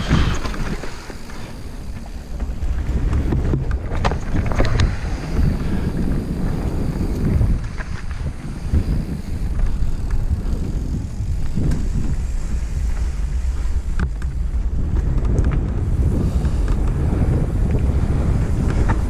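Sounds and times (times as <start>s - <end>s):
bike clicks and rattles: 0.0s - 19.0s
tyre and trail noise: 0.0s - 19.0s
wind buffeting microphone: 0.0s - 19.0s.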